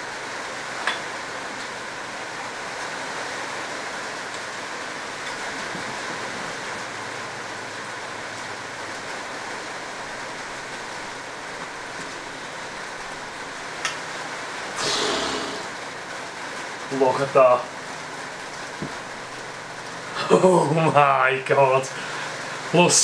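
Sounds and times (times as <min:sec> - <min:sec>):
rain on roof: 0:00.0 - 0:23.0.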